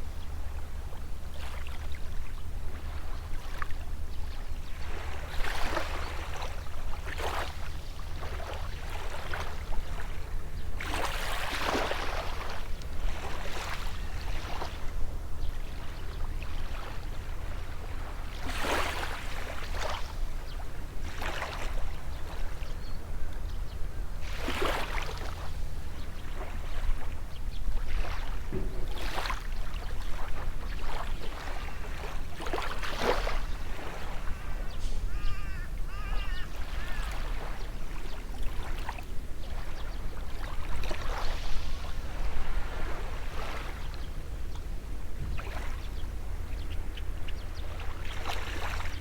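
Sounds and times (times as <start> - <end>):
small waves breaking on shore: 4.6 - 22.7, 24.1 - 49.0.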